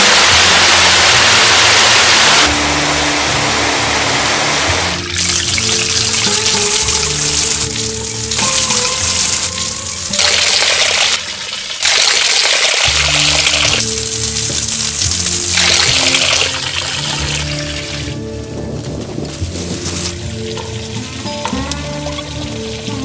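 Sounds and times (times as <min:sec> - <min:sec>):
background music with low notes: 0:00.0 - 0:11.7, 0:12.8 - 0:23.0
loud running water: 0:00.0 - 0:23.0.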